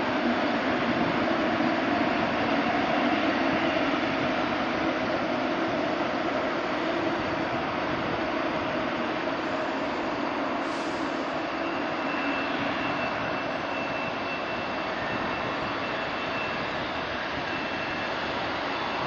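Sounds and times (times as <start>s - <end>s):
jet engine rush: 0.0s - 19.0s.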